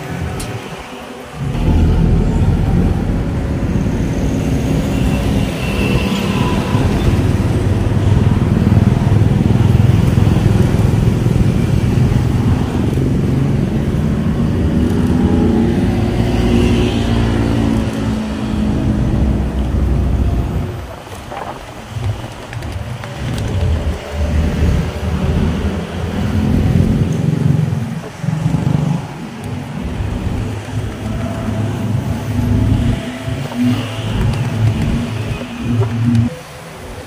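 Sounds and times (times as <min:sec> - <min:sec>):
road traffic driving past: 0:00.0 - 0:37.0.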